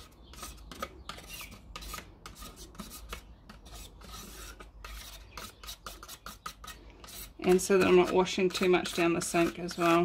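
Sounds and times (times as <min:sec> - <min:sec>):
palette knife scraping a cup: 0:00.0 - 0:10.0.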